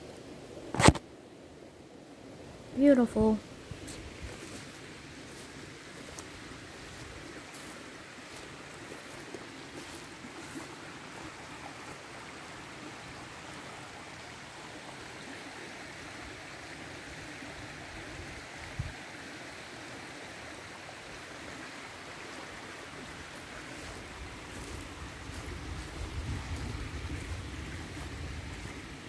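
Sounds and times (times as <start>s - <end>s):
stream rippling over stones: 0.0s - 29.0s.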